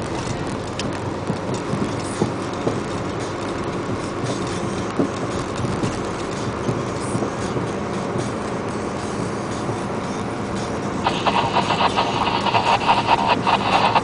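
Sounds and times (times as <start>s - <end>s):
vehicle driving on wet road: 0.0s - 14.0s.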